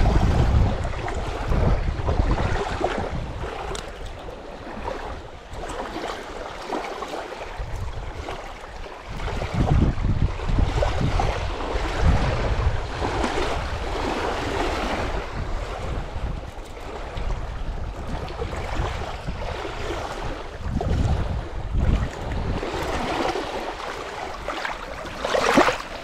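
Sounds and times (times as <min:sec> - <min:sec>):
small waves lapping: 0:00.0 - 0:26.0
wind buffeting microphone: 0:00.0 - 0:26.0.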